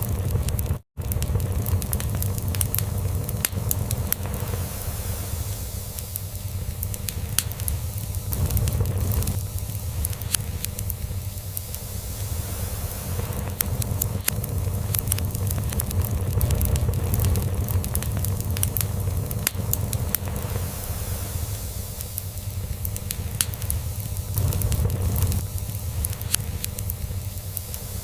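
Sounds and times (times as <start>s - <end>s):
log fire crackling and popping: 0.0s - 28.0s.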